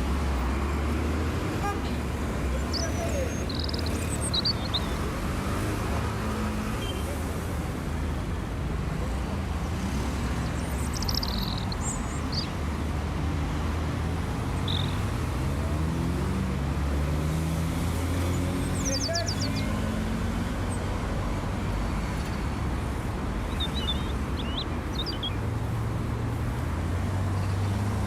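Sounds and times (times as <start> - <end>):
car and bus engines passing: 0.0 - 28.0.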